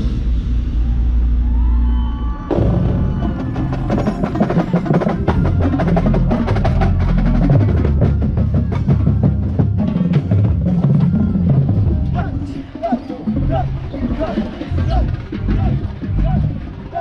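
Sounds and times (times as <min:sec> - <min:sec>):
drum corps brass playing: 0:02.5 - 0:17.0.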